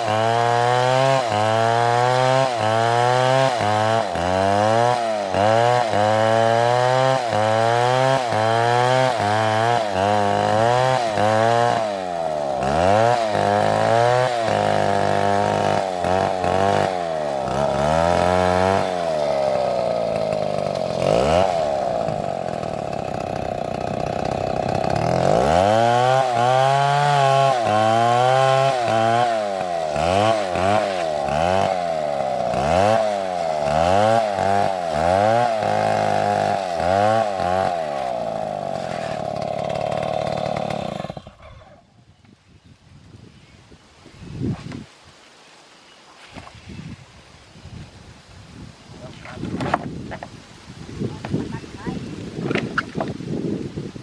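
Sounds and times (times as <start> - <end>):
chainsaw cutting wood: 0.0 - 41.9, 49.0 - 50.4, 51.0 - 53.6.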